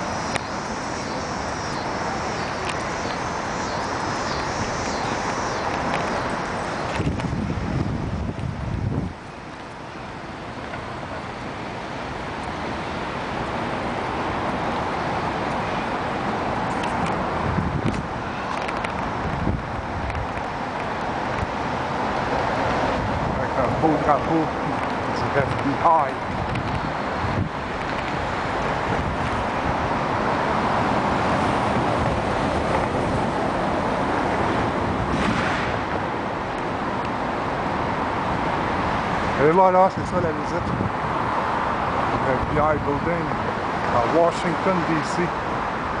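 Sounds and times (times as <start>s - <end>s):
street traffic noise: 0.0s - 46.0s.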